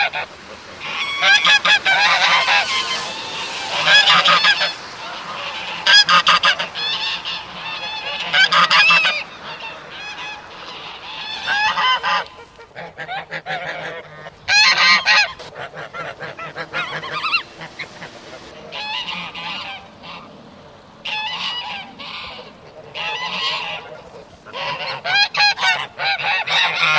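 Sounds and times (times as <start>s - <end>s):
geese chattering: 0.0s - 26.9s
geese honking: 0.0s - 26.9s.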